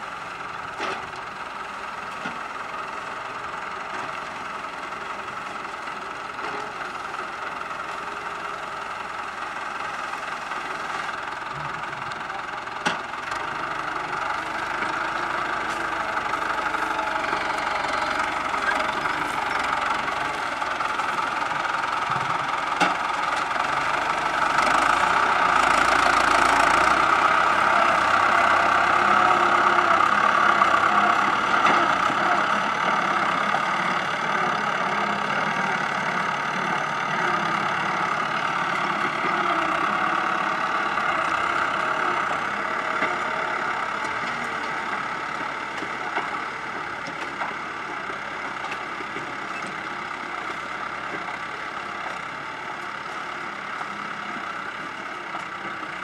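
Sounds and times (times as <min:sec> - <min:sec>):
loader engine running: 0:00.0 - 0:56.0.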